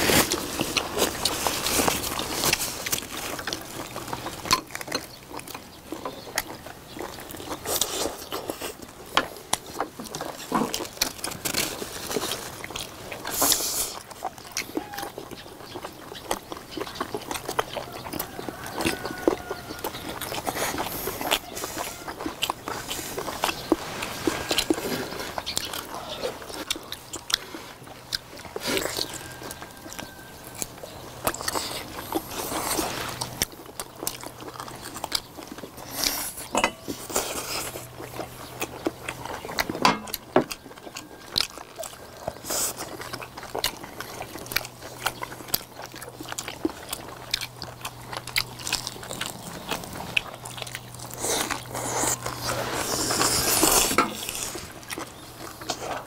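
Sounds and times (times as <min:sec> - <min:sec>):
people chewing: 0:00.0 - 0:56.0.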